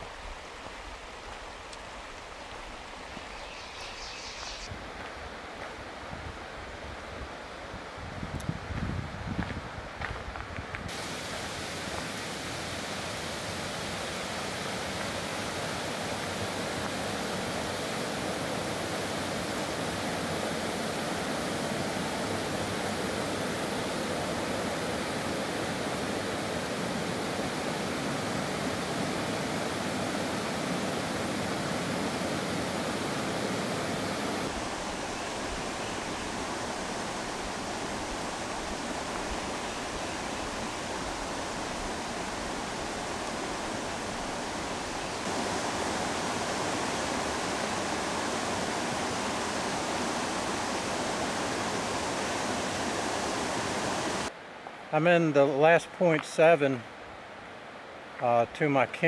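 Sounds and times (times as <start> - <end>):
creek rushing: 0.0 - 8.1, 10.9 - 59.0.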